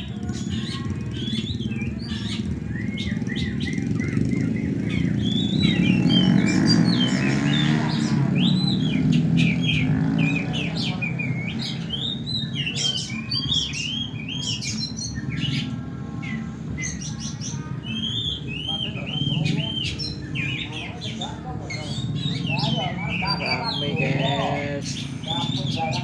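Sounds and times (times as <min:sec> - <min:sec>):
birds singing: 0:00.0 - 0:26.0.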